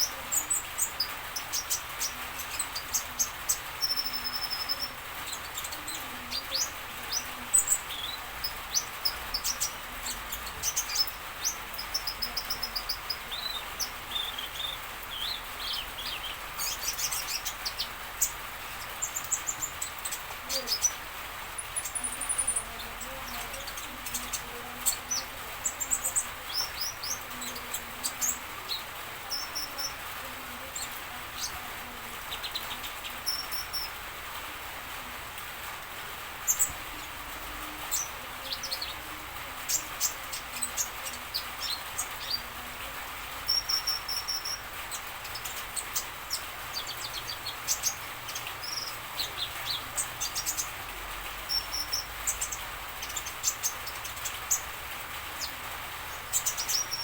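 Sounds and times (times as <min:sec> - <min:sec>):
songbird chirping: 0:00.0 - 0:57.0
steady background hiss: 0:00.0 - 0:57.0.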